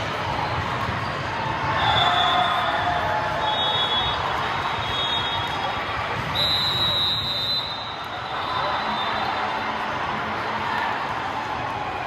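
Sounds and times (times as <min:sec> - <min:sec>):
crowd murmur: 0:00.0 - 0:12.0.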